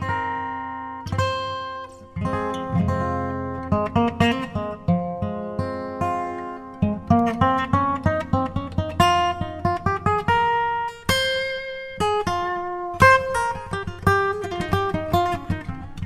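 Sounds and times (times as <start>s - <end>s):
solo guitar picking melody: 0.0s - 16.0s.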